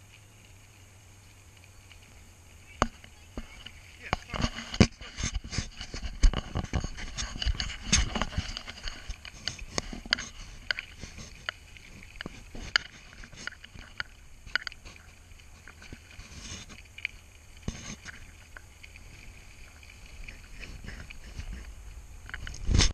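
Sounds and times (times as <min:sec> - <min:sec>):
bicycle tyres crunching gravel: 0:00.0 - 0:22.9.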